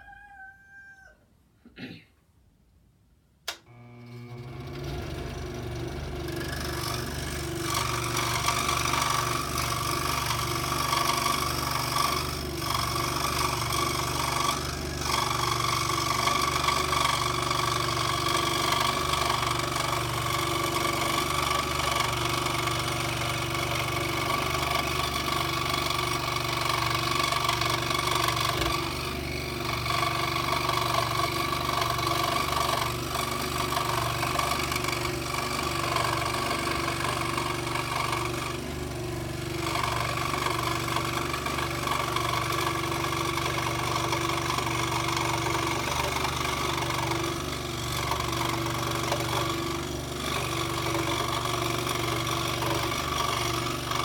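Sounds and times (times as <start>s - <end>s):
electric scroll saw running: 3.5s - 54.0s.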